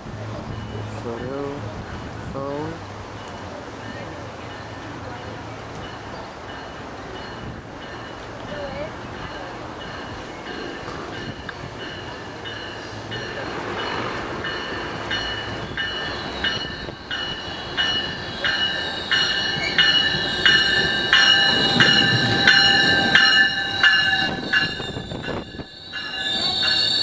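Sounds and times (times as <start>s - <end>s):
passenger train rumble: 0.0s - 27.0s
train bell ringing: 0.4s - 1.6s, 3.2s - 27.0s.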